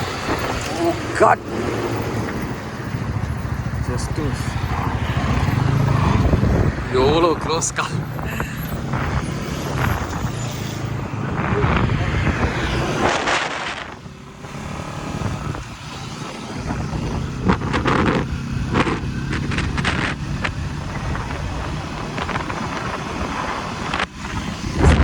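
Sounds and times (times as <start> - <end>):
motorcycle engine running: 0.0 - 25.0
road and wind noise: 0.0 - 25.0.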